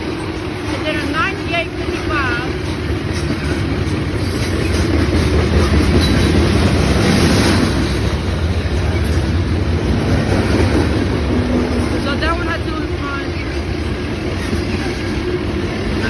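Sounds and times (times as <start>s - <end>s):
freight train rumbling past: 0.0s - 16.0s
wheels clattering over rail joints: 0.0s - 16.0s.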